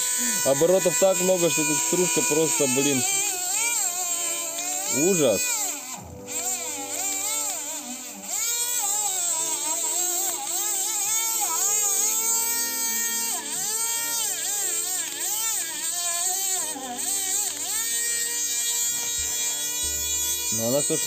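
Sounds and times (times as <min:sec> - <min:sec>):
rotary grinder whining: 0:00.0 - 0:21.0.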